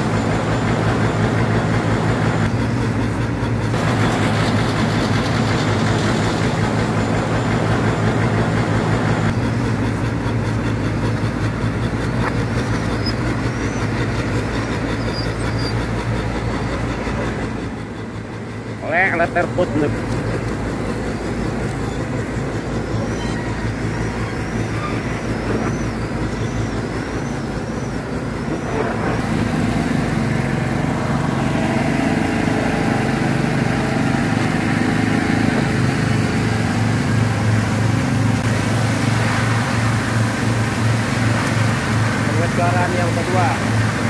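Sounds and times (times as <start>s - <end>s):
pump engine humming: 0.0s - 44.0s.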